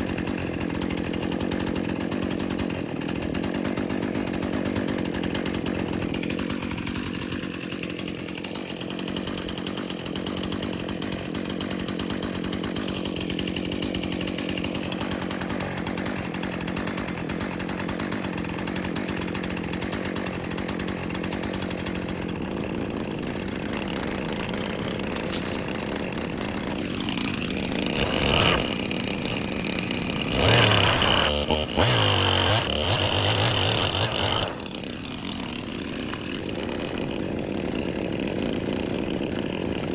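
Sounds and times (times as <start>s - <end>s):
sawmill gasoline engine running: 0.0s - 39.9s.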